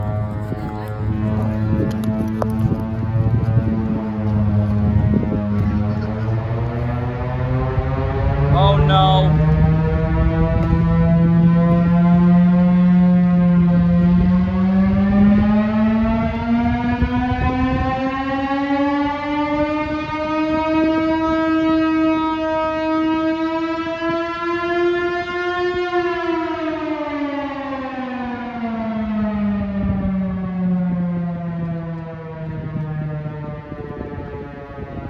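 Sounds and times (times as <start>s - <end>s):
air raid siren wailing: 0.0s - 35.0s.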